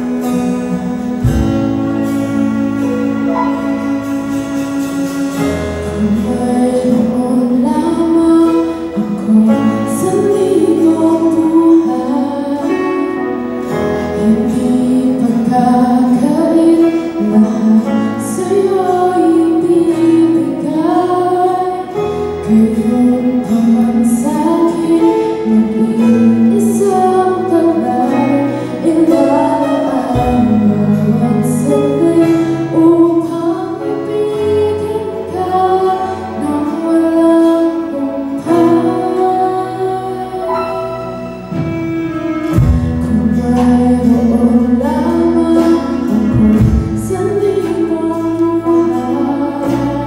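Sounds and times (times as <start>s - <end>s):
live band with guitar: 0.0s - 50.0s
woman singing worship song: 5.8s - 41.3s, 42.5s - 50.0s.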